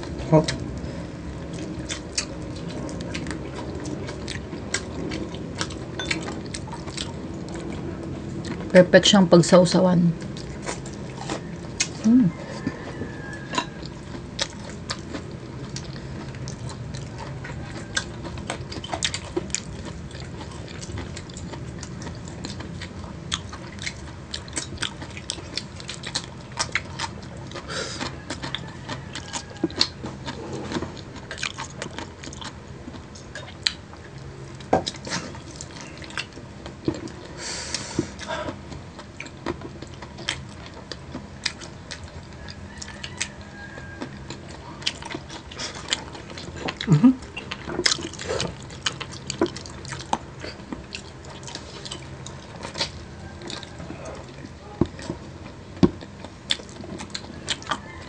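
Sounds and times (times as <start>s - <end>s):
crunching bites and chewing: 10.2s - 37.4s, 38.1s - 58.0s.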